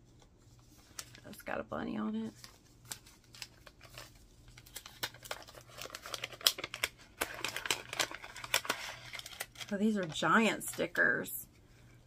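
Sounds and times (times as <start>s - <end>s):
crinkling sticker bag: 0.6s - 11.1s.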